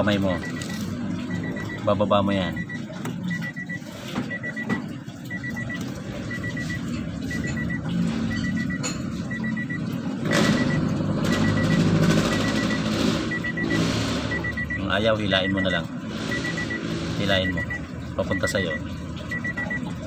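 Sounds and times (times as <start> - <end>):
electronic warning beeps: 0.0 - 20.0.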